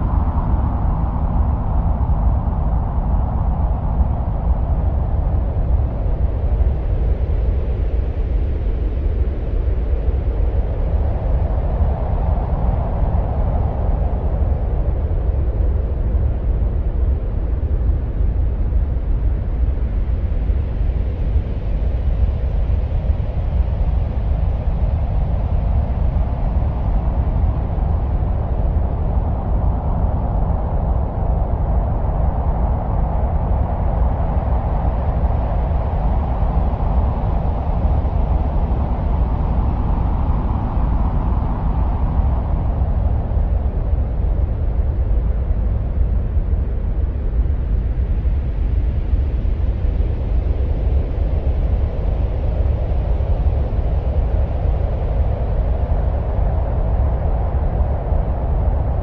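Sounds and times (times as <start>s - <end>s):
wind-like rushing rumble: 0.0s - 59.0s.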